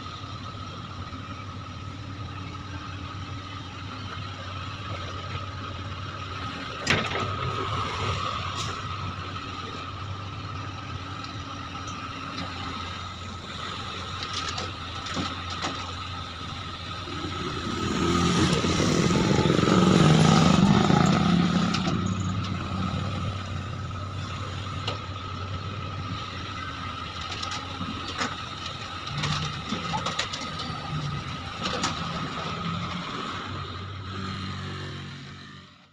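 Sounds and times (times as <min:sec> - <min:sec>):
diesel engine whining: 0:00.0 - 0:35.9.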